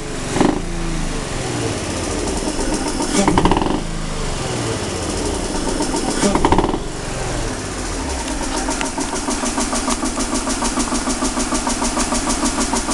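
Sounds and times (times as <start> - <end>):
car engine revving and idling: 0.0 - 12.9.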